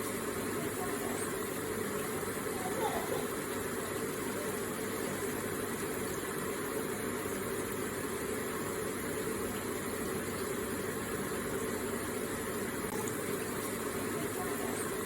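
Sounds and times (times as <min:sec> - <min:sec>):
water feature trickling and splashing: 0:00.0 - 0:15.0.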